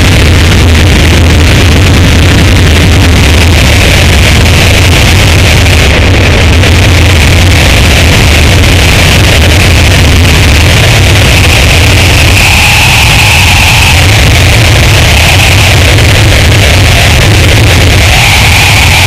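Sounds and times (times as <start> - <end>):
distorted noise music: 0.0 - 19.0
heavy low drone: 0.0 - 19.0.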